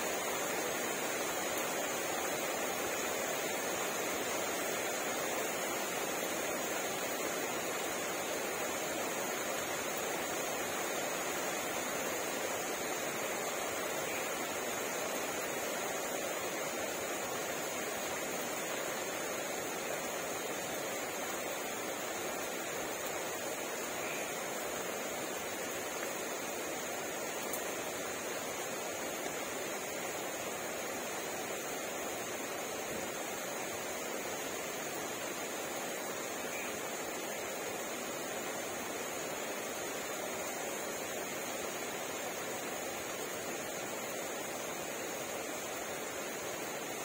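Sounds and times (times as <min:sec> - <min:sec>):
rain falling on plants: 0:00.0 - 0:47.0.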